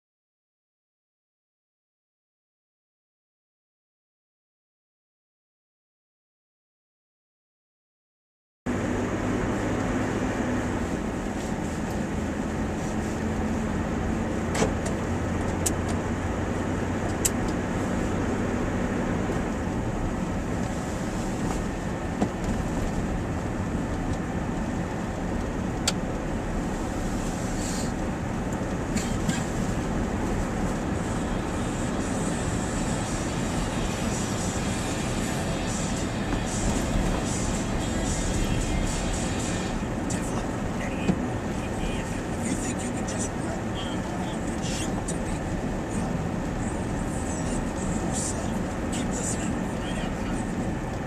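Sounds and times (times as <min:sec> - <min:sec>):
vehicle road and engine noise: 0:08.7 - 0:51.0.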